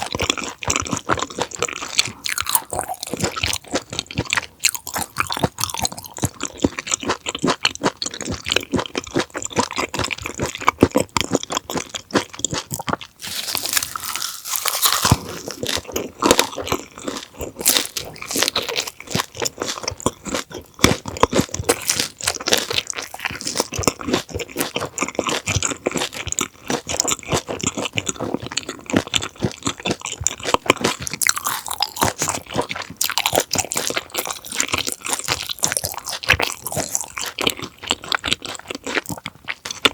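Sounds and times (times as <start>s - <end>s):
chewing and crunching raw fish: 0.0s - 39.9s.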